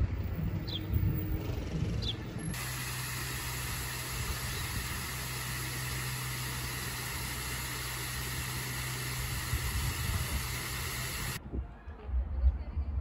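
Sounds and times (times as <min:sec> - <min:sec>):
vehicle running rumble and hiss: 0:00.0 - 0:11.4.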